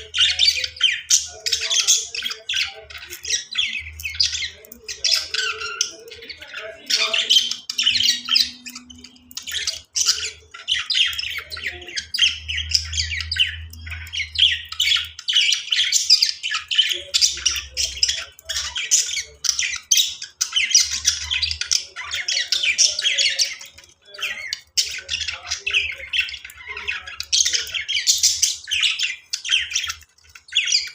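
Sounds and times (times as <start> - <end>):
budgies chattering and chirping: 0.0 - 30.9.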